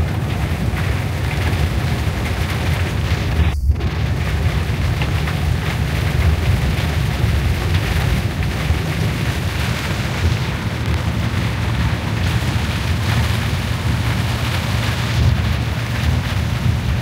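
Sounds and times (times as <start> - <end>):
car road and engine rumble: 0.0 - 17.0
wind and rain on windows: 0.0 - 17.0.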